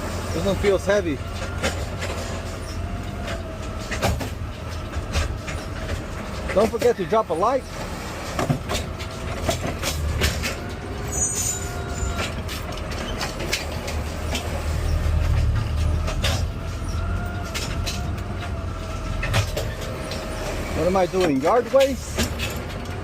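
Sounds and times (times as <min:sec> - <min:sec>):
arm and cart clattering: 0:00.0 - 0:23.0
diesel engine under load: 0:00.0 - 0:23.0.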